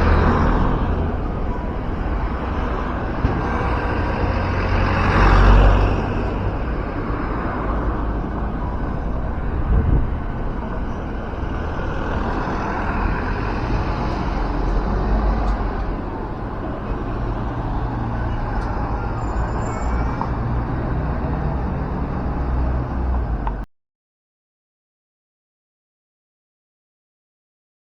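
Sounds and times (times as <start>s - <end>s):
bus diesel engine rumbling: 0.0s - 23.7s
road noise: 0.0s - 23.7s.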